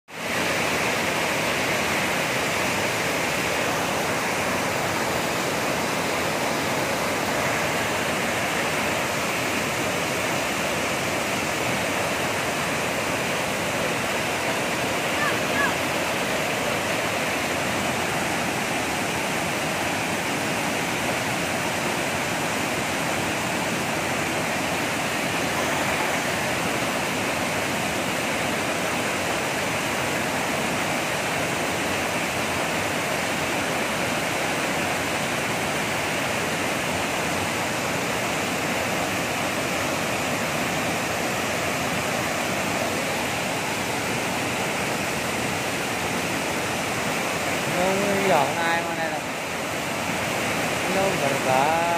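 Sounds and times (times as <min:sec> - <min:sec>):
waterfall pouring onto rocks: 0:01.8 - 0:51.9.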